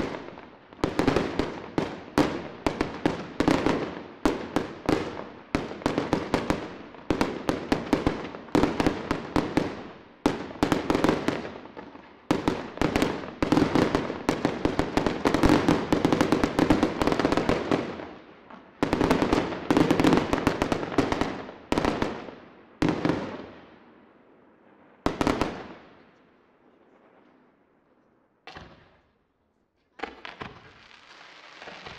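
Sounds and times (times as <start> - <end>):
fireworks bangs with echo: 0.0 - 23.8, 30.0 - 31.9.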